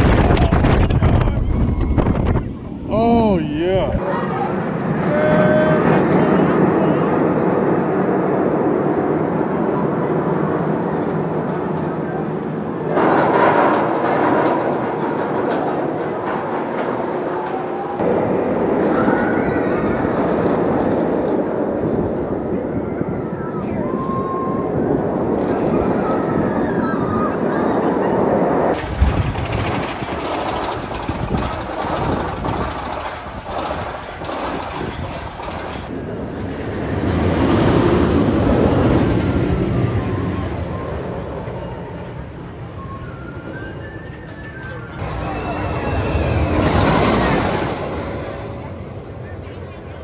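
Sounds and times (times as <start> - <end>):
roller coaster rumbling on rails: 0.0 - 50.0.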